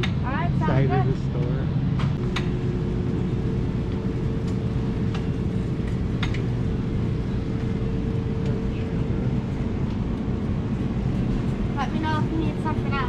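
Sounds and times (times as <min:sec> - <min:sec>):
power wheelchair motors humming: 0:00.0 - 0:13.0.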